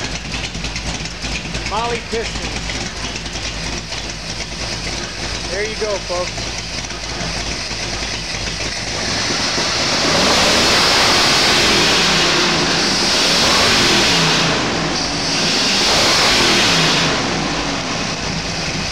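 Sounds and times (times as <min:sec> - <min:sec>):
engine revving: 0:00.0 - 0:18.9.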